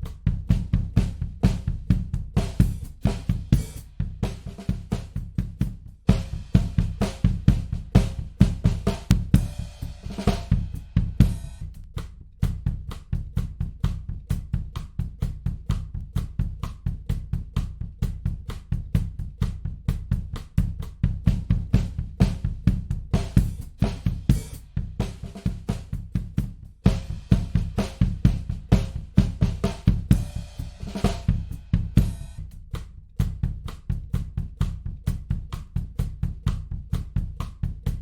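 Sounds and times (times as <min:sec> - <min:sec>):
drum kit playing steady beat: 0:00.0 - 0:38.0.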